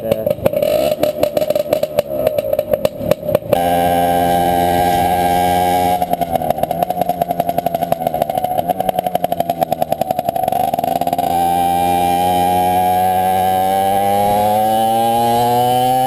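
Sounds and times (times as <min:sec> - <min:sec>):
two-stroke engine revving and idling: 0:00.0 - 0:16.0.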